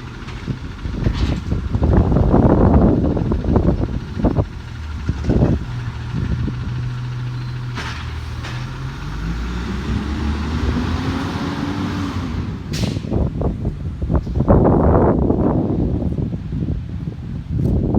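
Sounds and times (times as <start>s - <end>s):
garbage truck diesel engine: 0.0s - 17.4s.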